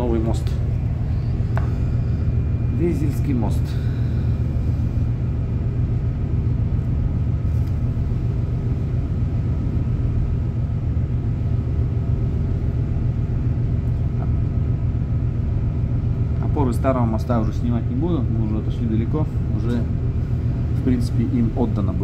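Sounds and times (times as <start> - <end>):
ship engine rumble: 0.0 - 22.0.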